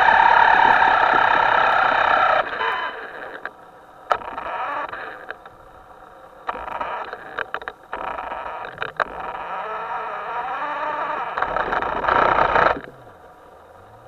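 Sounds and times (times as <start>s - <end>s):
sharp clicks: 0.0s - 5.6s, 6.4s - 13.0s
small electric motor whining: 0.0s - 5.6s, 6.5s - 14.0s.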